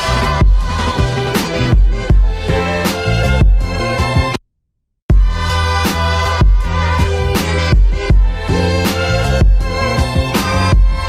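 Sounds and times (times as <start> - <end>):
background music with steady beat: 0.0 - 4.4, 5.1 - 11.0.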